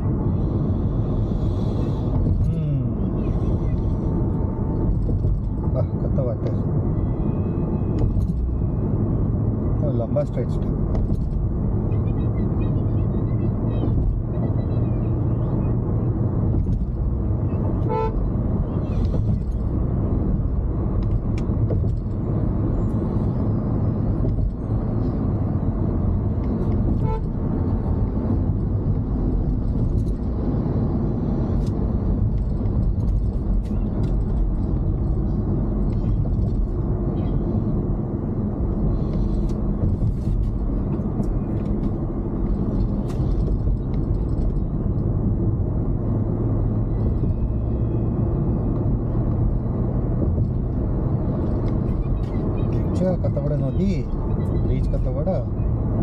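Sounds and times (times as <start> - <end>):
road and engine rumble in car: 0.0 - 56.0.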